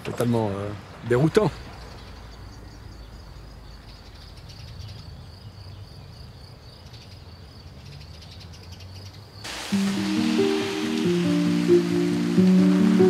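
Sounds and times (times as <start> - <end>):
crickets chirping: 1.5 - 13.0.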